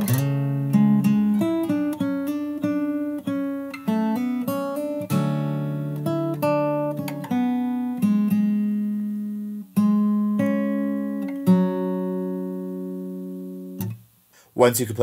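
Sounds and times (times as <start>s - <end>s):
fingerpicked acoustic guitar: 0.0s - 14.3s.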